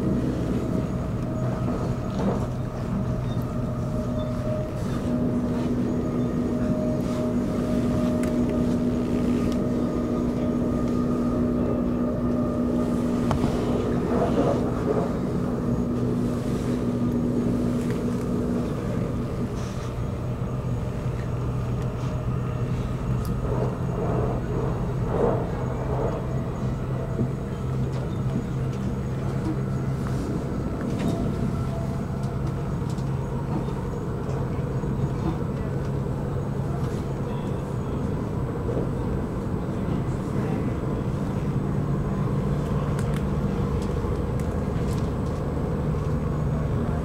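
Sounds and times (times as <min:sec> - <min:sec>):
electric train rumble: 0:00.0 - 0:47.0.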